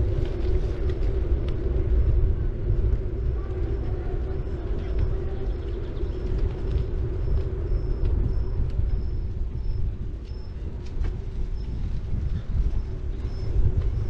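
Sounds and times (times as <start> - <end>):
tyres rolling on pavement: 0.0 - 14.0
wind rumbling on microphone: 0.0 - 14.0.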